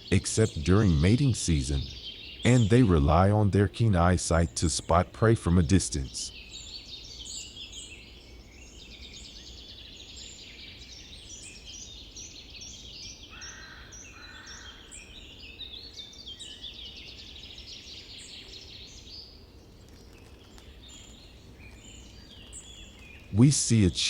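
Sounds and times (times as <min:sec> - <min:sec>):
birds chirping and trilling: 0:00.0 - 0:24.0
lower bird calls: 0:00.0 - 0:24.0.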